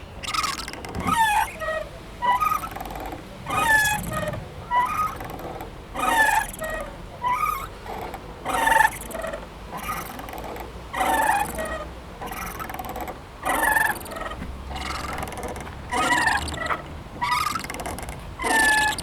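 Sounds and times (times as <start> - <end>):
playground swing squeaking: 0.0 - 19.0.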